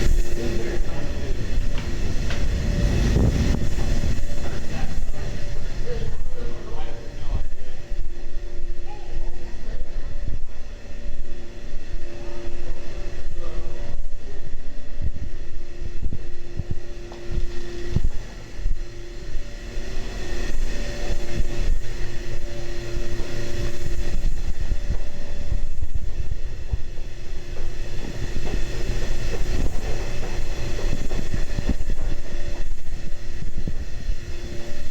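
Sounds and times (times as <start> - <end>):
faint steady whine: 0.0 - 34.9
train rumbling: 0.0 - 34.9.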